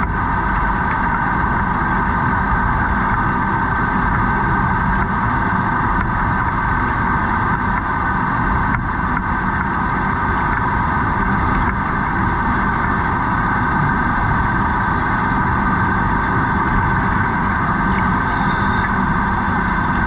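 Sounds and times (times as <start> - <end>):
underwater mechanical drone: 0.0 - 20.0.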